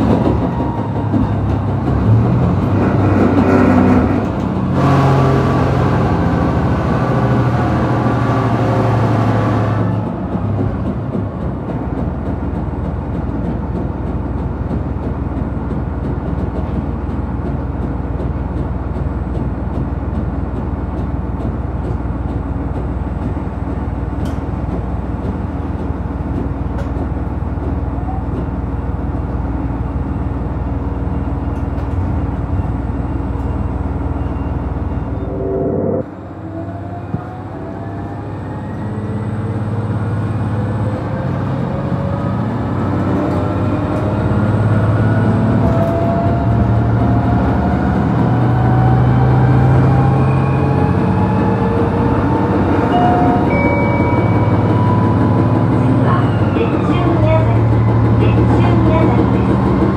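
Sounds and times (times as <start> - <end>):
diesel railcar engine: 0.0 - 59.9
moving railcar rumble: 0.0 - 59.9.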